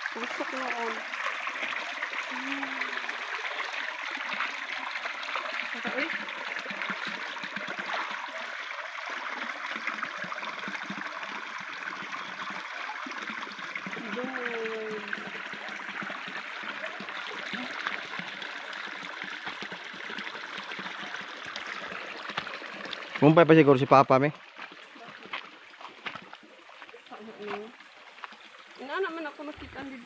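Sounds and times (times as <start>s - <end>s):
stream trickling over rocks: 0.0s - 30.0s.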